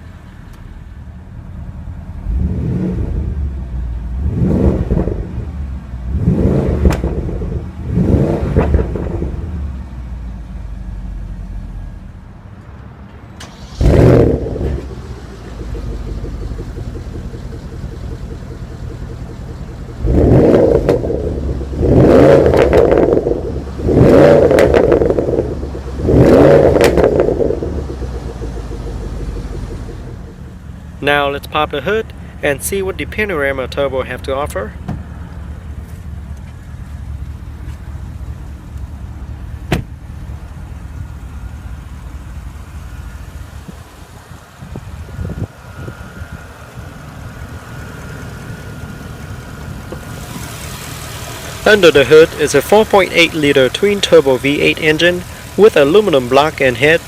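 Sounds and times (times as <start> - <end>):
car engine revving: 0.0 - 12.4, 13.4 - 57.0.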